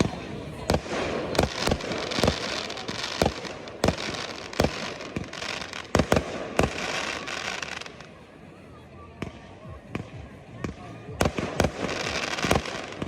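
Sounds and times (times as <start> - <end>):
firework crackle: 0.0 - 8.5, 9.2 - 13.0.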